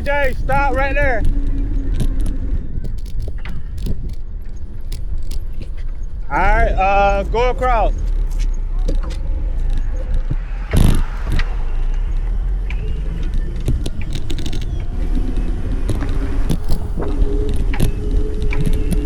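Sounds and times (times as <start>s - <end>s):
faint steady whine: 0.0s - 19.0s
rattles and clicks: 0.0s - 19.0s
wind rumbling on microphone: 0.0s - 19.0s.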